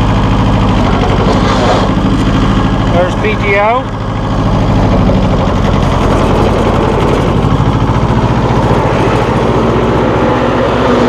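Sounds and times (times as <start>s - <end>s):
mower spinning: 0.0s - 11.0s
tractor diesel engine running: 0.0s - 11.0s.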